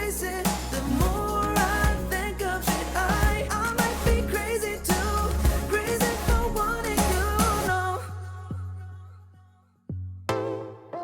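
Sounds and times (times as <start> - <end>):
pop music: 0.0 - 9.1, 10.3 - 11.0.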